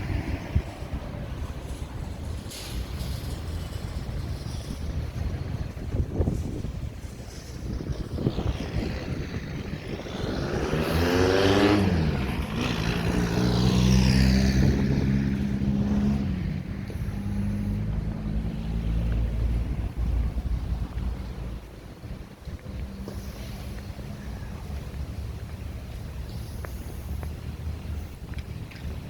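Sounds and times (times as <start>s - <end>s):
motor vehicle passing close: 0.0s - 24.7s
engine humming: 0.0s - 29.0s.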